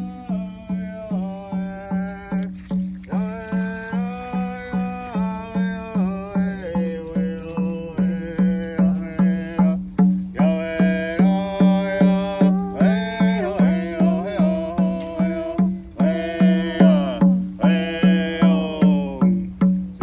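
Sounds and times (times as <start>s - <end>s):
person singing: 0.0s - 20.0s
steady drumbeat: 0.0s - 20.0s.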